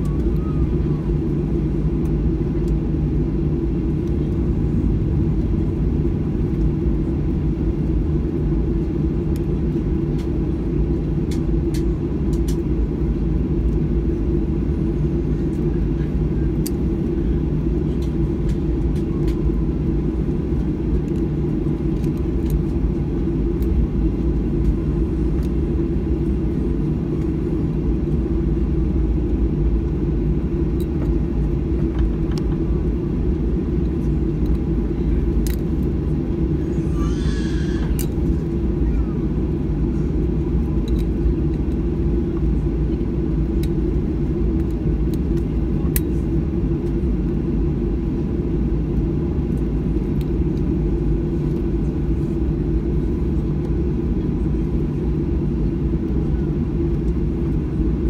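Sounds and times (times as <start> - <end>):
jet engines low rumble: 0.0 - 58.0.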